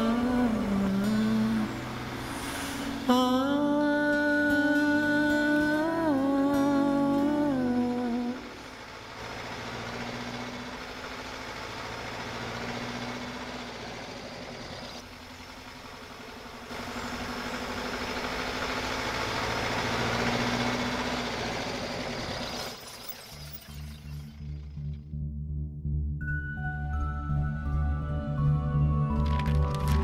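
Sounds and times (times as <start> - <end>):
car engine hum: 0.0 - 25.7.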